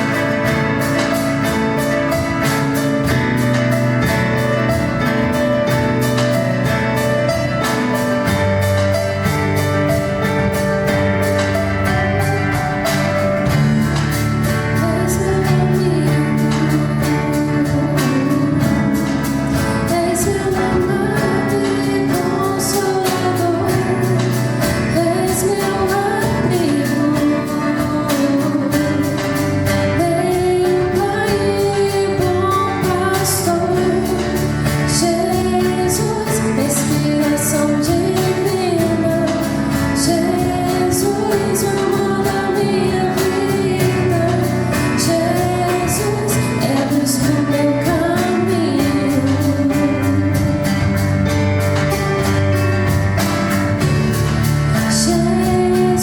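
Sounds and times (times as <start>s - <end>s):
woman singing: 0.0s - 51.3s, 54.6s - 56.0s
acoustic guitar: 0.0s - 56.0s
drums: 0.0s - 56.0s
piano: 0.0s - 56.0s.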